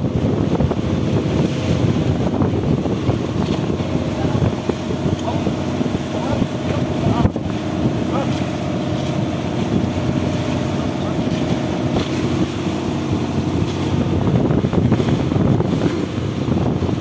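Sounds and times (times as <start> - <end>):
boat engine running: 0.0 - 17.0
wind noise on microphone: 0.0 - 17.0.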